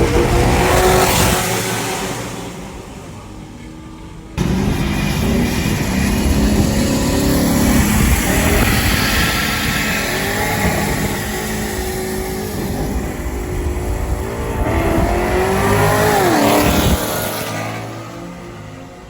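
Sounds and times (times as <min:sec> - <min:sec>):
car engines at full throttle: 0:00.0 - 0:19.0.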